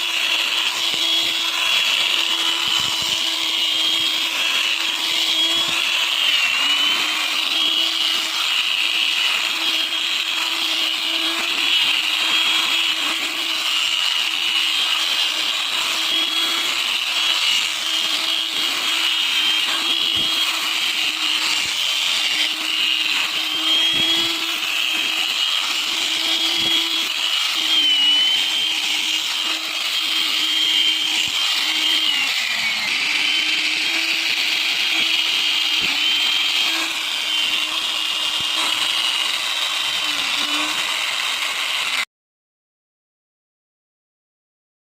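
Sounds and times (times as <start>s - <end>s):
power tool motor whining: 0.0s - 42.1s.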